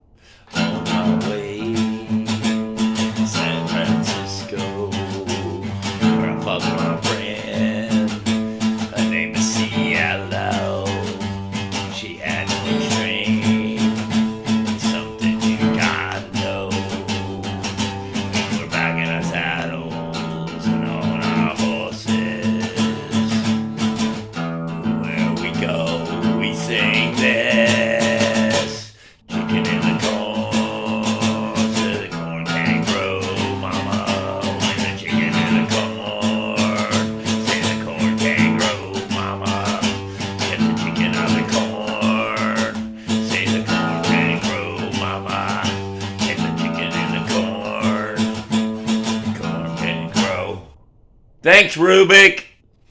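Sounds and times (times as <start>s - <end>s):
acoustic guitar playing: 0.0s - 52.3s.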